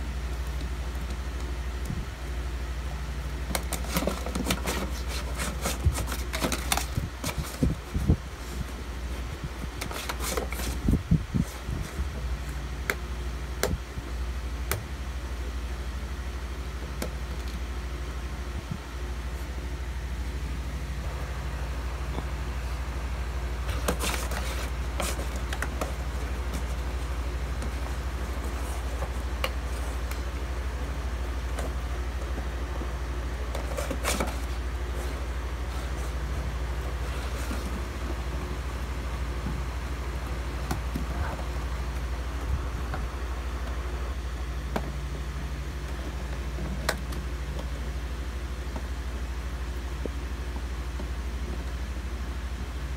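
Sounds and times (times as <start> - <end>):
fan humming: 0.0 - 52.9.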